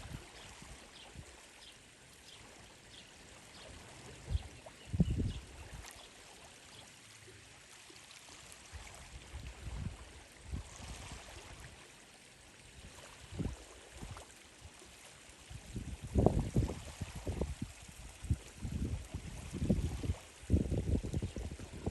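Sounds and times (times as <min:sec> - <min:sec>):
running water: 0:00.0 - 0:21.9.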